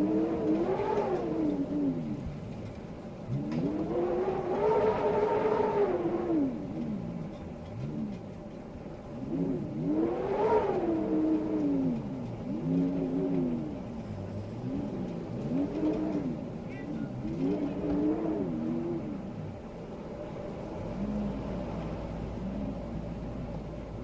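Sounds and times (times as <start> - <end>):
wind howling in gusts: 0.0 - 24.0.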